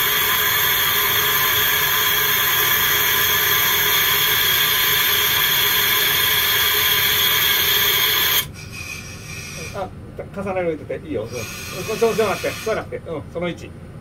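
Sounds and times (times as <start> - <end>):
compressed air hissing from brake valve: 0.0 - 9.9, 11.2 - 12.9.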